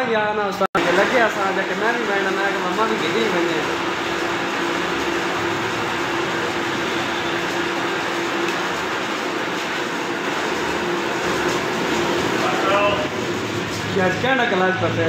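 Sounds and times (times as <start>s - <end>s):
grinding machine humming: 0.8s - 15.0s.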